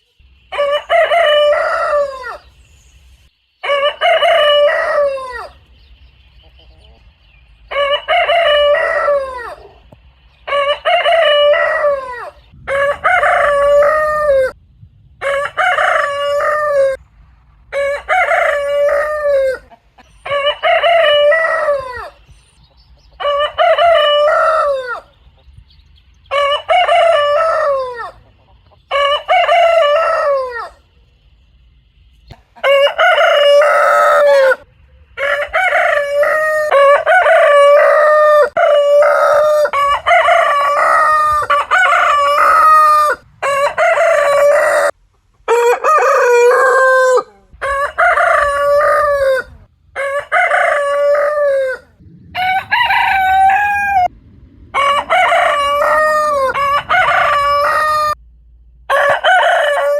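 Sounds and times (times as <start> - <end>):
roosters crowing: 0.2 - 6.0, 6.6 - 14.6, 15.2 - 17.0, 17.6 - 22.5, 23.1 - 25.4, 26.1 - 31.2, 32.3 - 58.2, 58.8 - 59.9.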